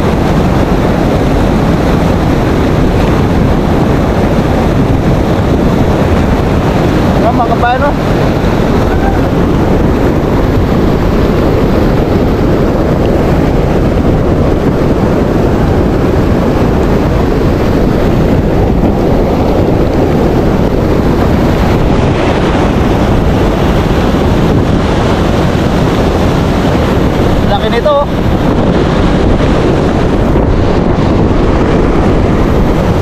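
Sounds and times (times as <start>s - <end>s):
strong wind buffeting microphone: 0.0s - 33.0s.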